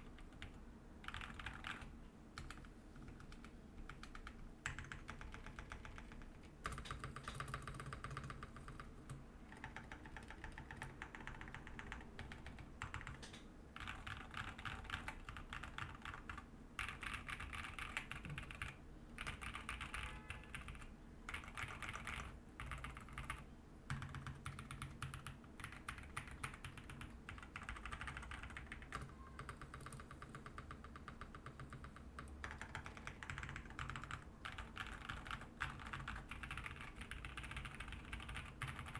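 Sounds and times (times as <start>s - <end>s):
typing on mechanical keyboard: 0.0s - 38.9s.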